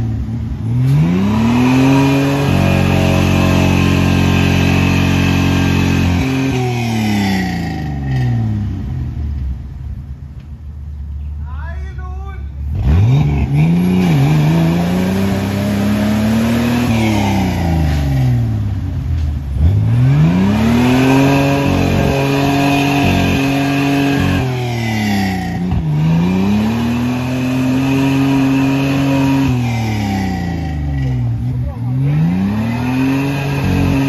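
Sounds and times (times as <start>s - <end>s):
car engine revving hard: 0.0s - 8.9s, 12.7s - 18.6s, 19.6s - 34.0s.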